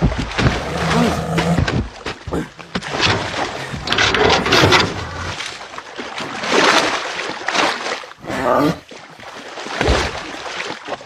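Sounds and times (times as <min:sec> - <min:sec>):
water splashing heavily: 0:00.0 - 0:11.0.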